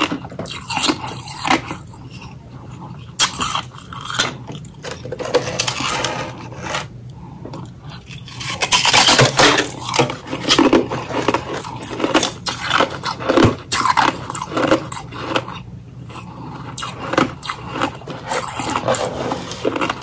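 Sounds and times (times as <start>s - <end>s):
ice being bitten and chewed: 0.0s - 20.0s.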